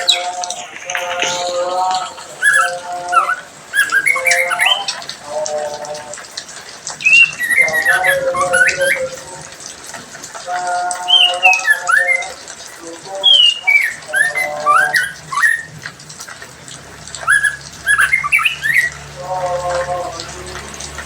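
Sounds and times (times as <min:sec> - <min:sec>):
harsh repeated bird call: 0:00.0 - 0:06.1, 0:07.0 - 0:09.5, 0:10.5 - 0:15.8, 0:17.1 - 0:21.0
songbirds singing: 0:00.0 - 0:21.0.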